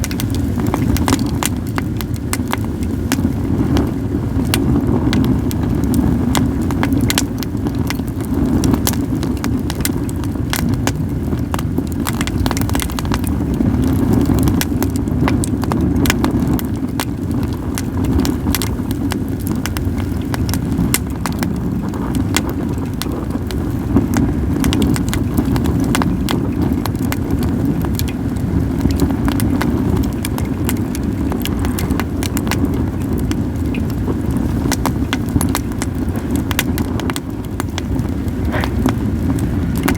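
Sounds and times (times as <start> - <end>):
campfire crackling and popping: 0.0 - 39.9
wind on microphone: 0.0 - 39.9.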